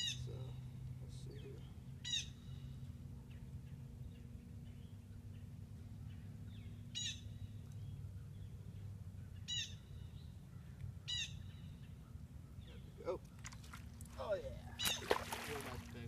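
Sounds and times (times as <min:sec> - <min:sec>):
bird calling: 0:00.0 - 0:16.0.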